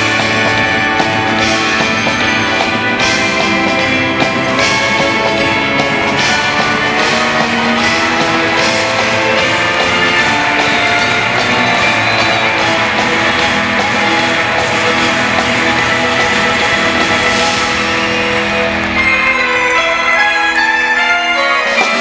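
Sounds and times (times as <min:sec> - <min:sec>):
loud rock music with guitar: 0:00.0 - 0:22.0.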